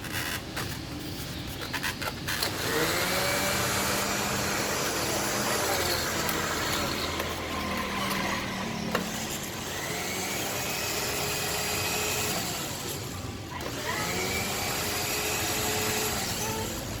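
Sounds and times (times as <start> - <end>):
drilling machine motor whine: 2.4 - 16.7.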